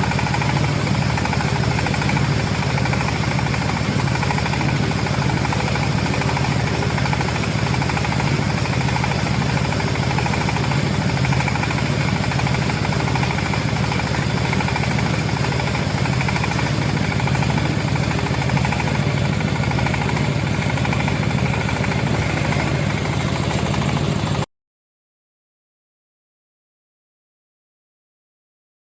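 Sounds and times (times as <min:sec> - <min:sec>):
baler machine drone and rattle: 0:00.0 - 0:24.5.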